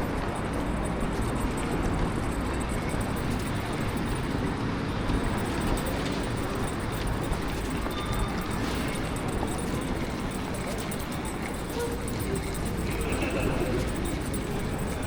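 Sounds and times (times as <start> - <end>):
vehicle in motion rumbling: 0.0 - 15.0.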